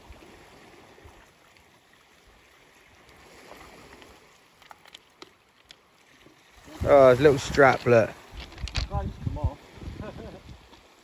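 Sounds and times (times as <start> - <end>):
sea on shingle shore: 0.0 - 11.0.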